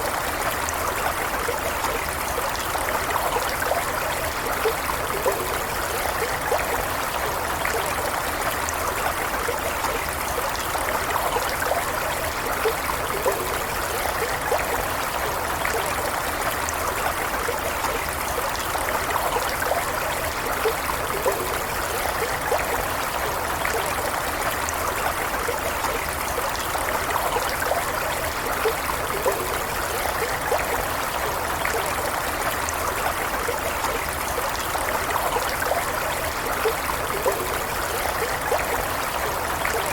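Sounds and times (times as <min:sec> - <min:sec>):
stream water over stones: 0:00.0 - 0:39.9.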